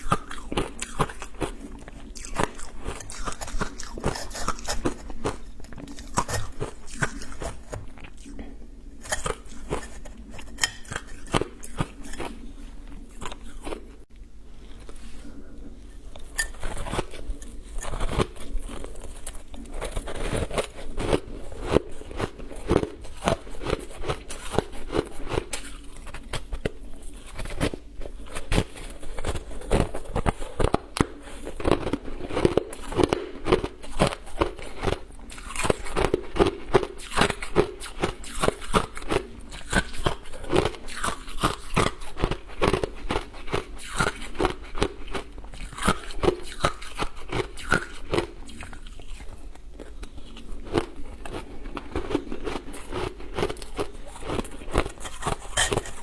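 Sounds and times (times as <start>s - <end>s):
ice being chewed: 0.0s - 15.2s, 15.8s - 56.0s.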